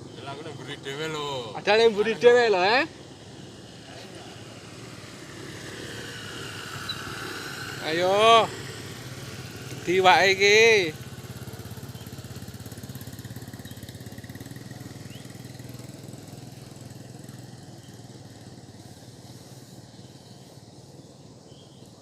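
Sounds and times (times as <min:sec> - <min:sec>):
small engine pulsing hum: 0:00.0 - 0:22.0.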